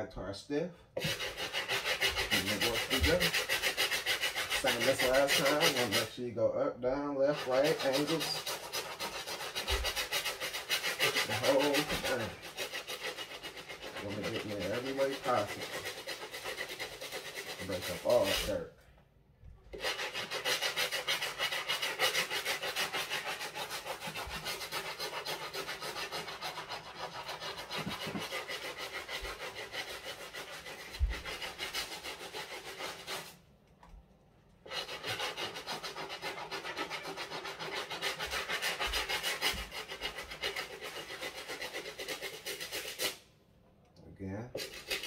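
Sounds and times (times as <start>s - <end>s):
brush scrubbing shoe sole: 1.0s - 6.2s, 7.2s - 18.7s, 19.8s - 33.3s, 34.7s - 43.2s.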